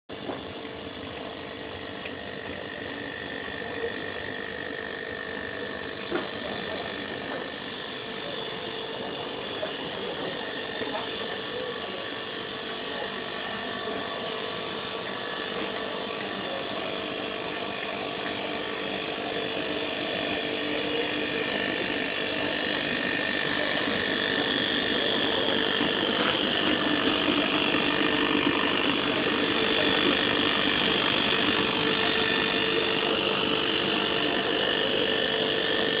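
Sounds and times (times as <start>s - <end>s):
steady mechanical whine: 0.1s - 36.0s.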